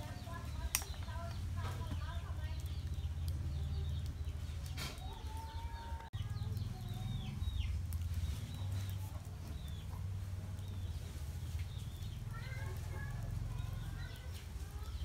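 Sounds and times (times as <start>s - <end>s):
birds gliding calls: 0.0s - 15.0s.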